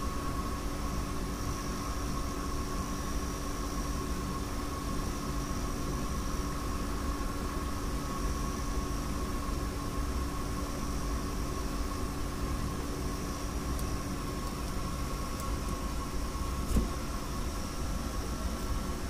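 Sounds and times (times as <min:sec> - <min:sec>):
machine hum with whine: 0:00.0 - 0:19.0.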